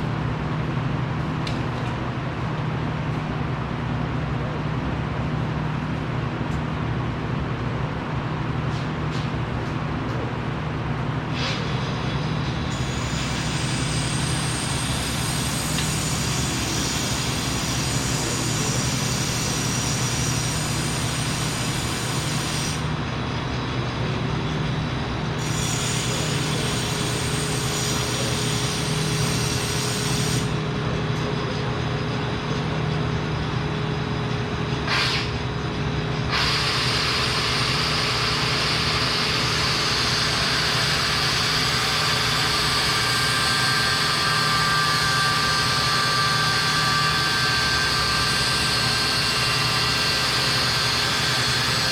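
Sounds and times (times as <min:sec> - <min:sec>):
equipment hum: 0:00.0 - 0:51.9.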